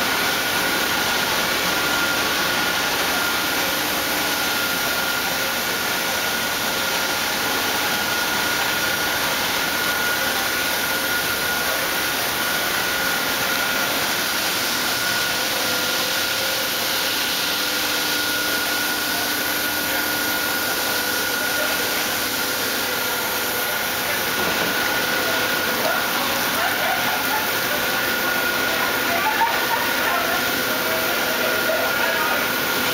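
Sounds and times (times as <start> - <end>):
boring mill hissing and whining: 0.0 - 32.9.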